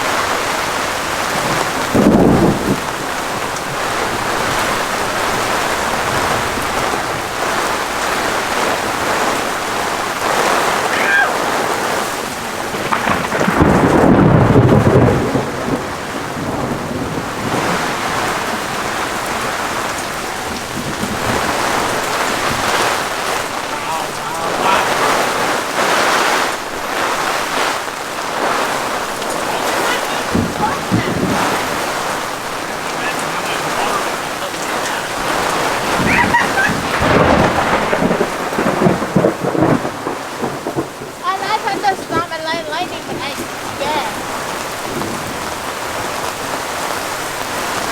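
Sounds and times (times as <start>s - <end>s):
heavy rain: 0.0s - 47.9s
low rumble of thunder: 0.0s - 47.9s.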